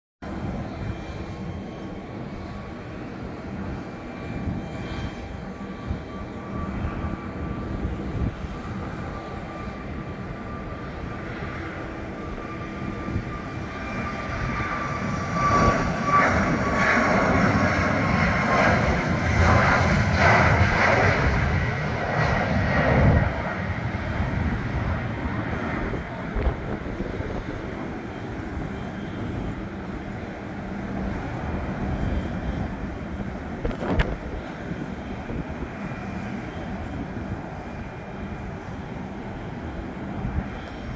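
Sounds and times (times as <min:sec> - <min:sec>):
jet taking off: 0:00.3 - 0:40.9.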